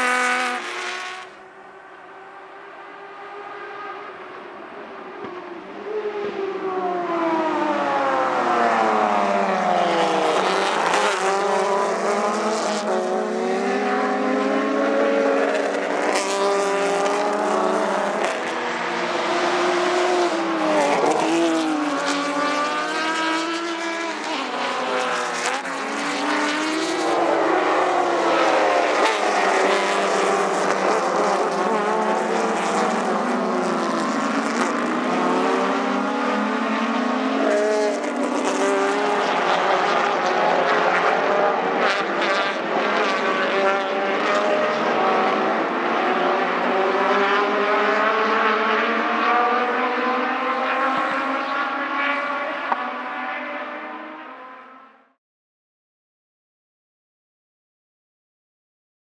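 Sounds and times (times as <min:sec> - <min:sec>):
race cars passing at full throttle: 0:00.0 - 0:55.1.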